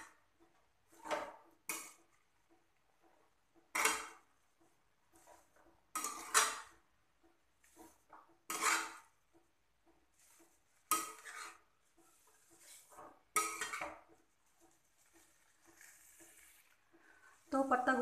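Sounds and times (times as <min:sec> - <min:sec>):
metal spatula scraping a pan: 0:00.0 - 0:18.0.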